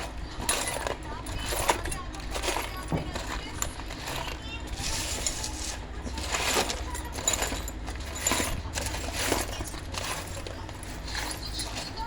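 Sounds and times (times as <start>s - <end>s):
small metal parts clinking: 0.0s - 12.0s.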